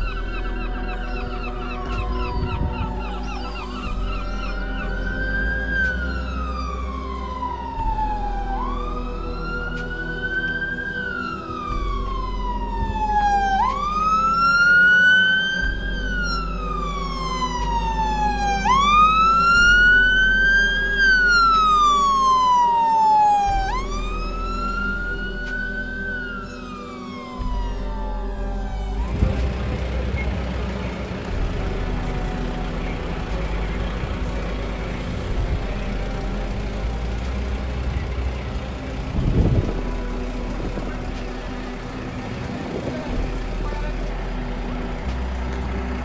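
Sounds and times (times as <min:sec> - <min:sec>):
fire engine siren wailing: 0:00.0 - 0:46.0
low rumble: 0:00.0 - 0:46.0.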